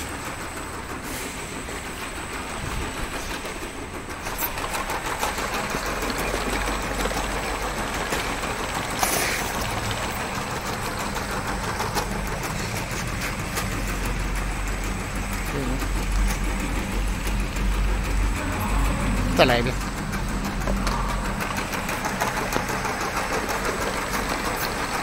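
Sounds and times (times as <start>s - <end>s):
conveyor chain clattering: 0.0s - 25.0s
low motor hum: 0.0s - 25.0s.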